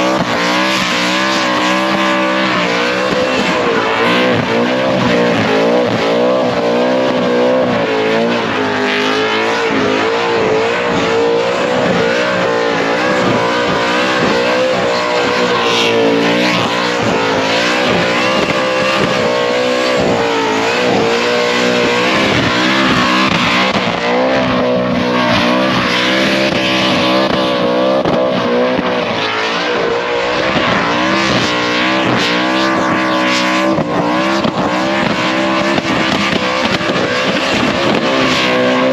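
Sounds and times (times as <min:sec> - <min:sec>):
supercharged engine revving: 0:00.0 - 0:38.9.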